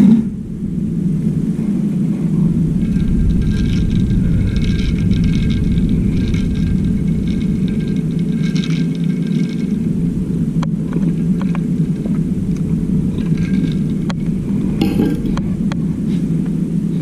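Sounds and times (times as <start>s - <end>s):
machine rumbling: 0.0s - 16.2s.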